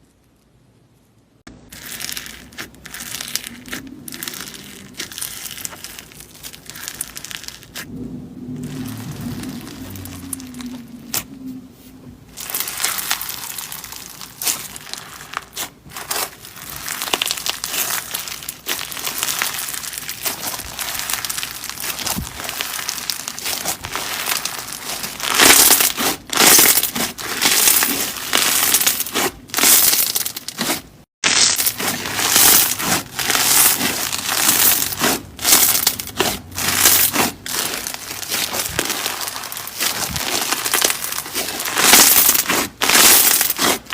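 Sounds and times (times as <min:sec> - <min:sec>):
slime squishing by hand: 0:01.5 - 0:43.9.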